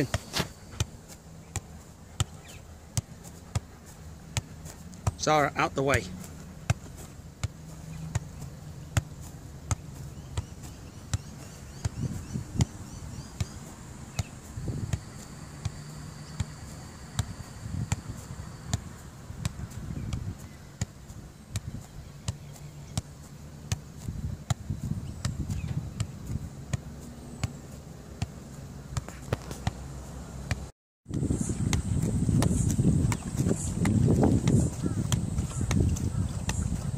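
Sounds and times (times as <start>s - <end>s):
football being kicked taps: 0.0s - 29.8s, 30.5s - 36.9s.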